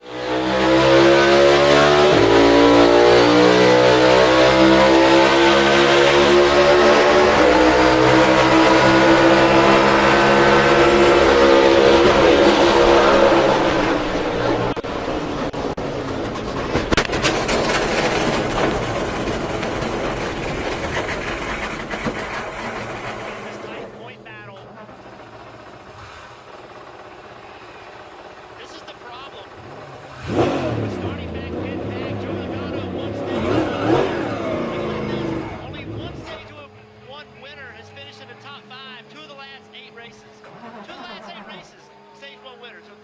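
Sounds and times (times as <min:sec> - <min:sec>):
race car engine at high revs: 0:00.0 - 0:43.0.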